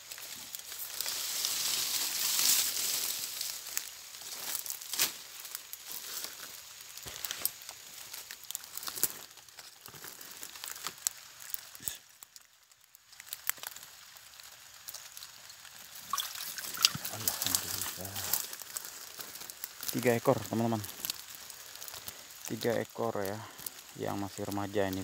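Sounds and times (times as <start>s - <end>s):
leaves and twigs rustling: 0.0s - 25.0s
twigs snapping: 0.0s - 25.0s.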